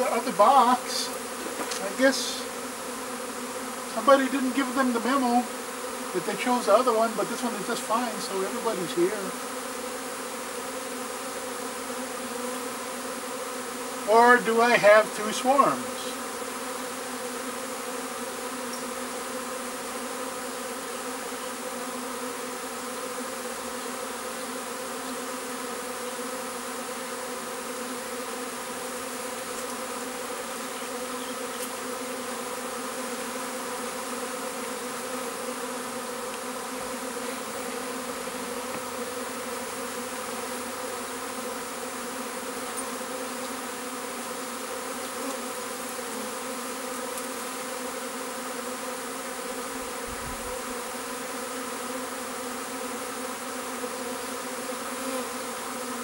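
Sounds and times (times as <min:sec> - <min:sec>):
bee swarm buzzing: 0:00.0 - 0:56.0.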